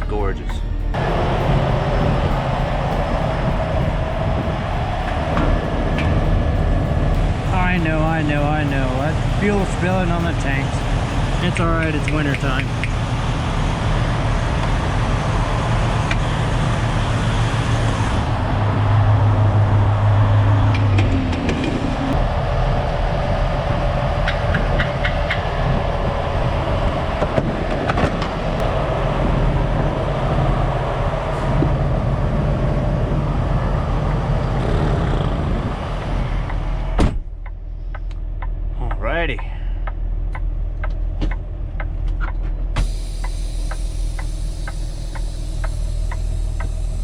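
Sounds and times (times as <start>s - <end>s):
diesel truck engine rumbling: 0.0s - 47.0s.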